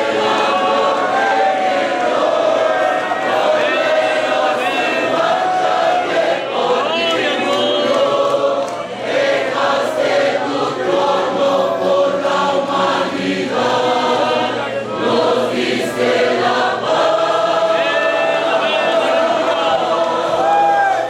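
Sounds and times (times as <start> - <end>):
choir singing a hymn: 0.0 - 20.7.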